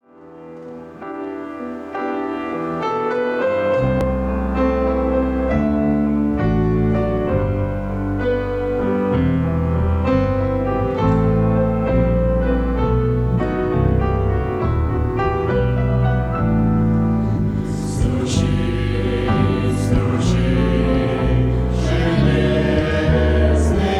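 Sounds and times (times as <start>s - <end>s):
piano or keyboard intro: 0.0s - 23.9s
deep bass line: 4.0s - 23.9s.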